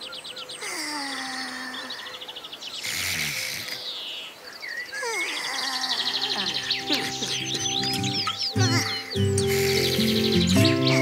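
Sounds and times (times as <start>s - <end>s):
chirps: 0.0s - 11.0s.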